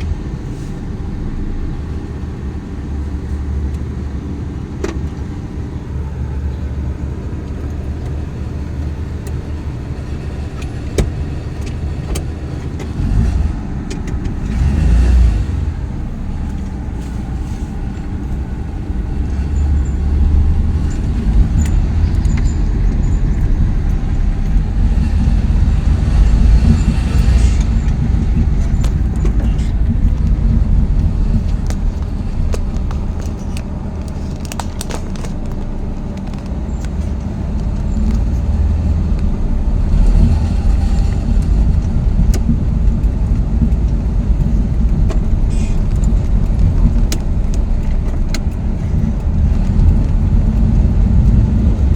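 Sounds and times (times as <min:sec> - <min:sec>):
vehicle engine and road rumble: 0:00.0 - 0:51.9.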